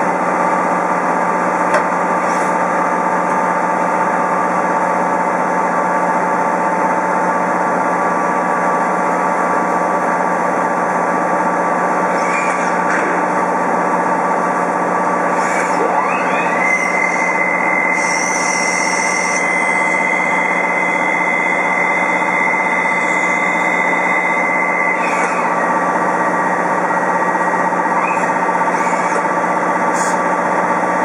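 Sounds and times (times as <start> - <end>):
machine droning and whining: 0.0 - 31.0.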